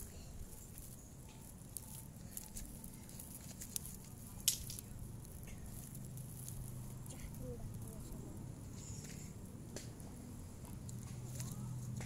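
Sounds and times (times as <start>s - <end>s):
low steady rumble: 0.0s - 12.0s
rustling and handling noise: 0.0s - 12.0s.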